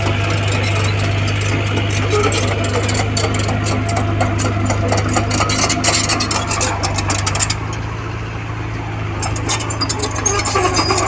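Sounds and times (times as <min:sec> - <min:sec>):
metal clanks and scraping: 0:00.0 - 0:08.0, 0:09.1 - 0:11.0
diesel engine running: 0:00.0 - 0:11.0.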